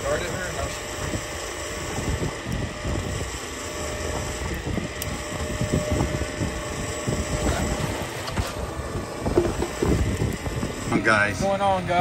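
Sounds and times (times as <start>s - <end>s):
boat engine: 0.0s - 12.0s
wind buffeting microphone: 0.0s - 12.0s.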